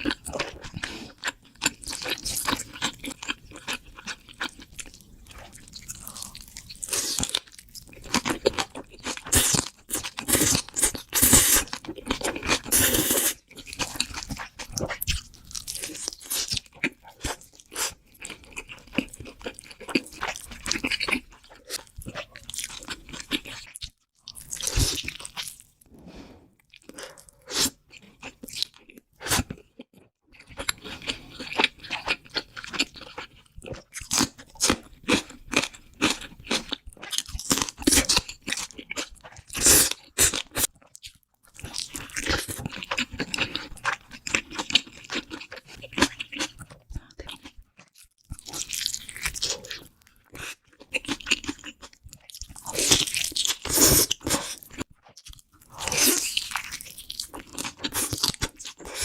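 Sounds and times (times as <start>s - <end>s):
crunching and chewing crisp food: 0.0s - 26.0s, 26.6s - 59.0s.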